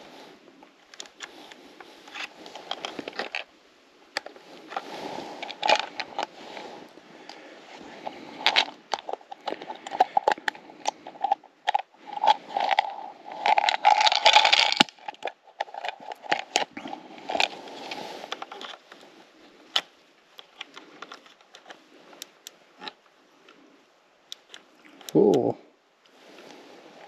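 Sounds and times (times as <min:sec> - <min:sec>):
rustling and crackling: 0:00.0 - 0:27.0.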